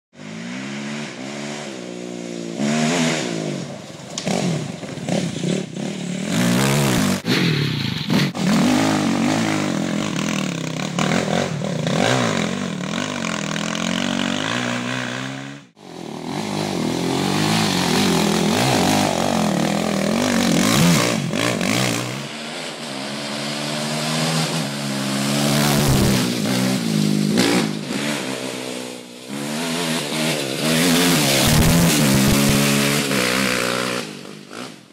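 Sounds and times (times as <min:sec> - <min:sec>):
quad engine revving: 0:00.2 - 0:34.9.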